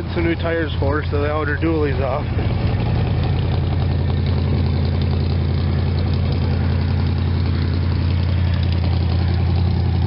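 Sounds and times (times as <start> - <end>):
engine idling through exhaust: 0.0 - 10.0.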